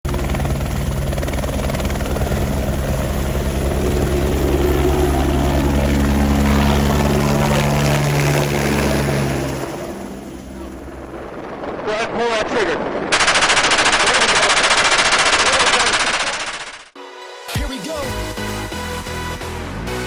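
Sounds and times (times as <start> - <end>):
helicopter rotor chop and drone: 0.0 - 17.0.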